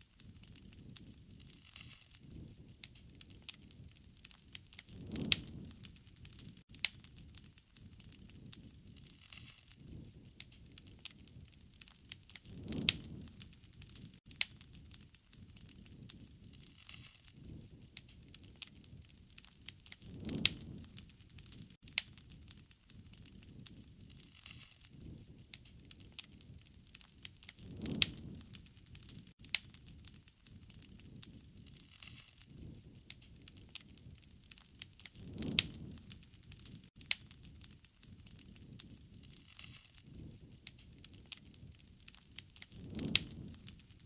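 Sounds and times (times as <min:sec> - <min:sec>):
fire pops and snaps: 0:00.0 - 0:44.0
wood fire crackling: 0:00.0 - 0:44.0
flame whoosh: 0:00.5 - 0:07.4, 0:08.0 - 0:14.2, 0:15.6 - 0:21.8, 0:23.2 - 0:44.0.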